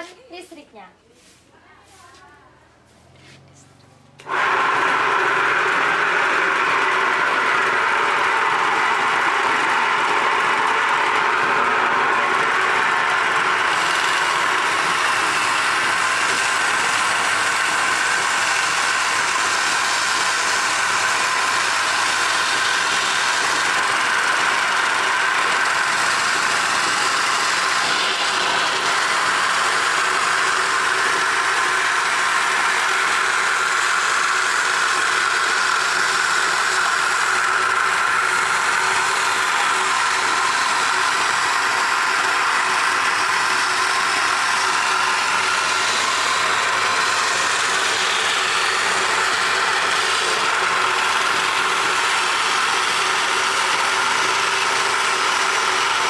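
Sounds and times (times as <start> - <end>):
coconut grating machine running: 3.1 - 56.0.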